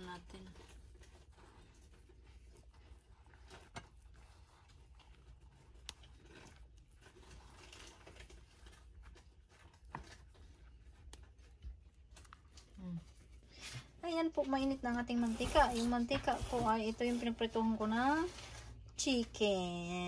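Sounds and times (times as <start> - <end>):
flour rustling and scrunching: 0.0 - 20.0.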